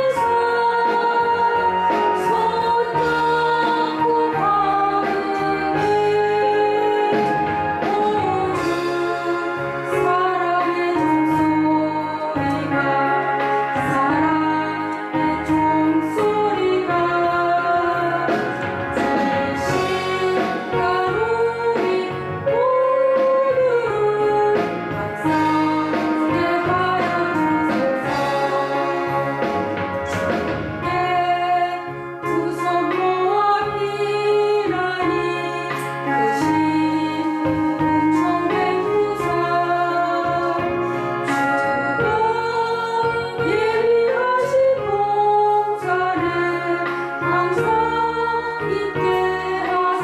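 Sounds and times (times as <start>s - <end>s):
woman singing gospel song: 0.0s - 29.6s, 30.8s - 50.0s
instrumental accompaniment: 0.0s - 50.0s.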